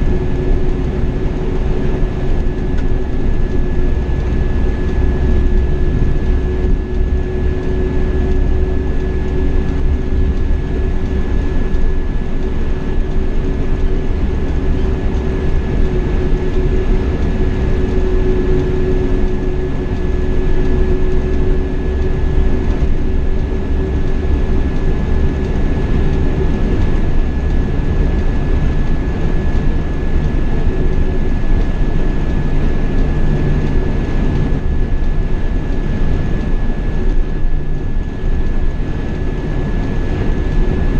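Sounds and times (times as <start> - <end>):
engine and tyre rumble: 0.0 - 40.9
steady hum: 0.0 - 40.9.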